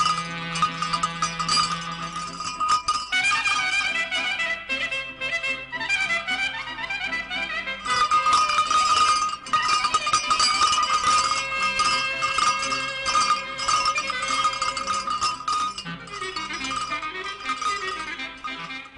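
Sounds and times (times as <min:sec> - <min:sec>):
metal bells clanging: 0:00.0 - 0:04.1, 0:07.8 - 0:18.9.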